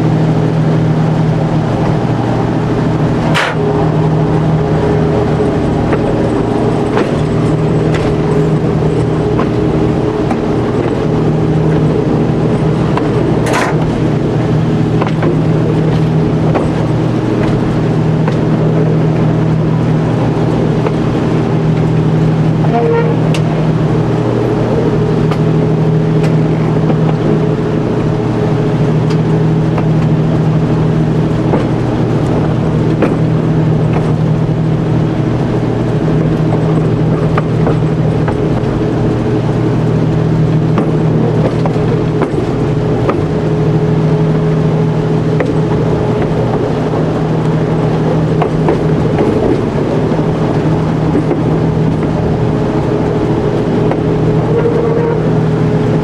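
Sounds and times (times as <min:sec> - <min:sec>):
train running gear drone: 0:00.0 - 0:56.0
wheels clicking over rail joints: 0:01.3 - 0:56.0.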